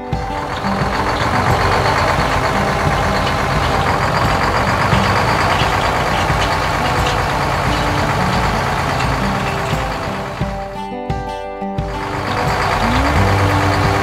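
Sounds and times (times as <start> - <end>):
combine harvester engine rumble: 0.0 - 10.8, 11.9 - 14.0.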